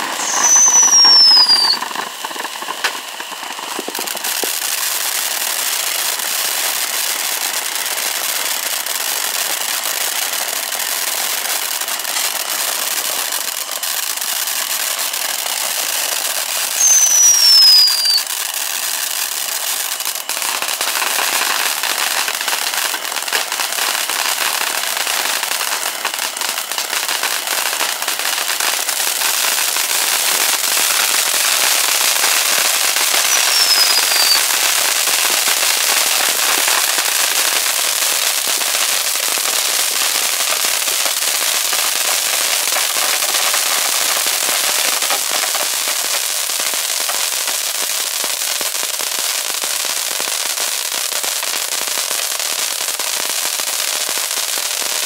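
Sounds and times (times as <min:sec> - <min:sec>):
falling firework whistle: 0:00.0 - 0:50.4
fireworks fountain hiss and crackle: 0:00.0 - 0:55.0.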